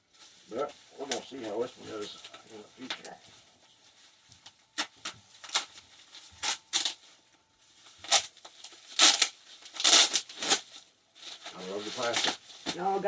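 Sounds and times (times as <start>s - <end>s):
plastic wrapping crinkling: 0.1s - 13.0s.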